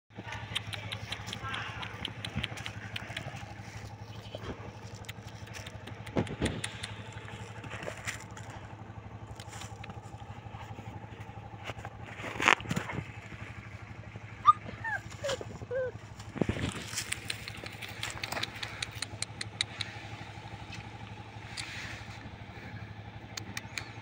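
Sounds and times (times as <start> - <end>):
small engine humming: 0.1 - 24.0
scattered clicks: 0.2 - 13.8, 16.1 - 22.4, 23.0 - 24.0.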